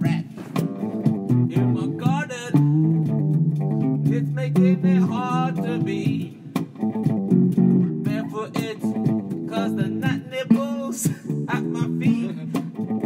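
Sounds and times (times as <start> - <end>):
bass guitar low notes: 0.0 - 13.0
funk band playing: 0.0 - 13.0.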